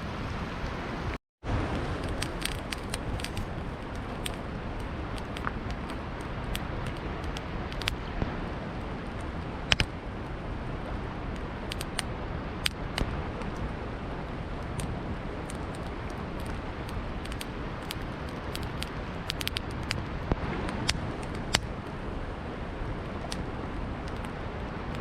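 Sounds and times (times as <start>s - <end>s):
river flowing: 0.0s - 25.0s
campfire crackling and popping: 0.1s - 25.0s.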